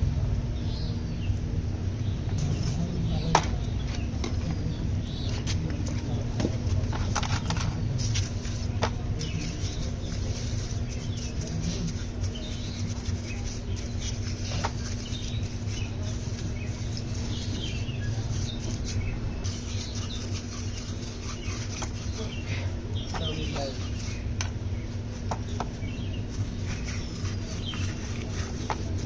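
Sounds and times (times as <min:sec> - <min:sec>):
small birds chirping: 0:00.4 - 0:29.0.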